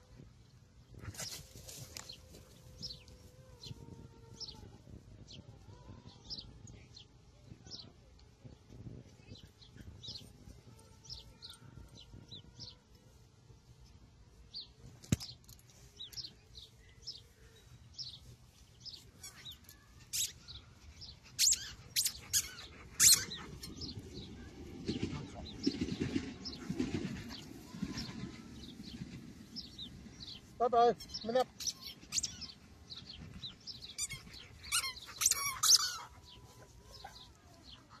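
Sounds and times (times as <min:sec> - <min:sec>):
small birds chirping: 0:00.9 - 0:08.0, 0:08.6 - 0:13.2, 0:13.8 - 0:38.0.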